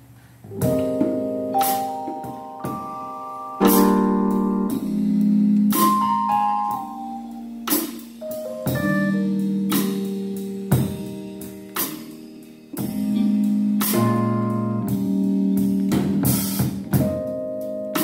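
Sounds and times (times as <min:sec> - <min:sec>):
electric keyboard chords: 0:00.5 - 0:18.0.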